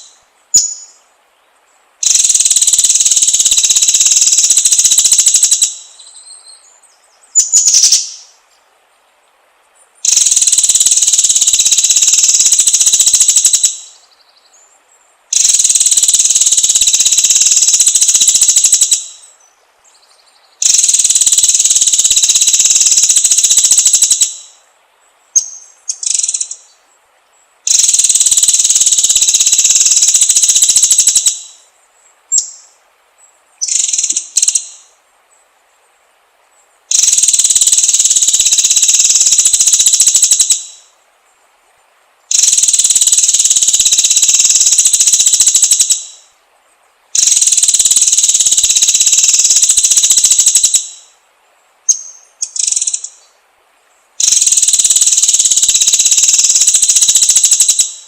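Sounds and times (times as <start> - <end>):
high-pitched buzzing bird trills: 0.0 - 1.0, 2.0 - 8.6, 9.8 - 24.7, 25.3 - 26.9, 27.6 - 35.0, 36.6 - 41.0, 42.3 - 46.4, 47.1 - 51.2, 51.8 - 53.4, 54.2 - 58.0.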